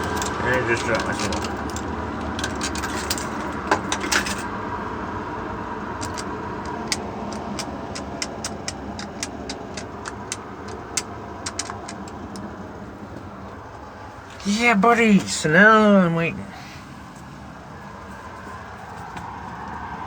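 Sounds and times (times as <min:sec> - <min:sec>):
background traffic rumble: 0:00.0 - 0:20.0.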